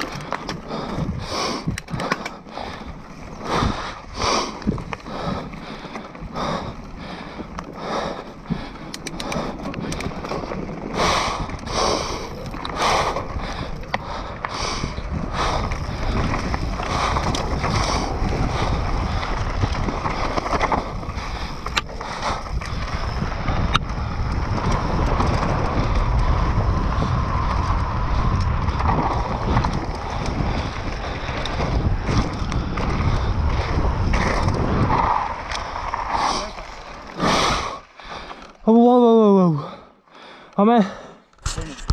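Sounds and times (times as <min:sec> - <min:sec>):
wind buffeting microphone: 0:00.0 - 0:38.3
bike tyres rolling on dirt: 0:00.0 - 0:41.9.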